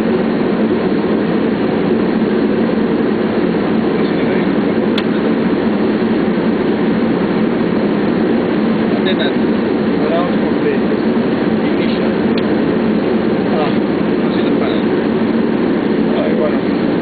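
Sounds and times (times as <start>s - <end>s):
airliner cockpit airflow and engines: 0.0s - 17.0s.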